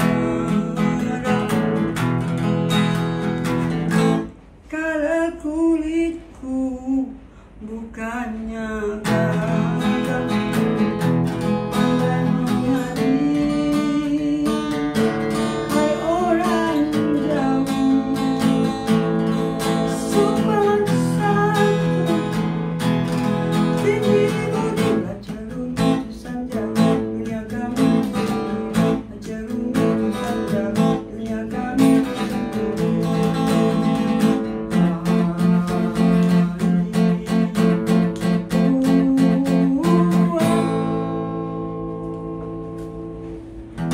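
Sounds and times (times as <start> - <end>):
acoustic guitar strumming: 0.0 - 4.8, 8.2 - 43.9.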